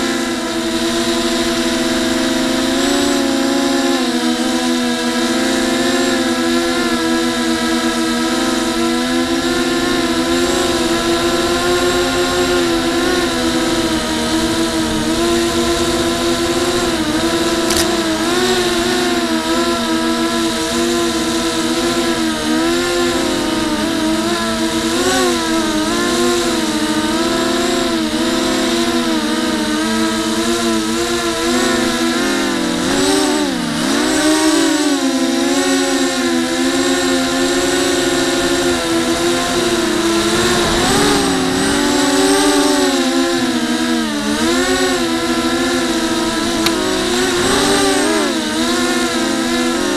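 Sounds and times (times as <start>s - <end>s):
drone motors whining: 0.0s - 49.9s.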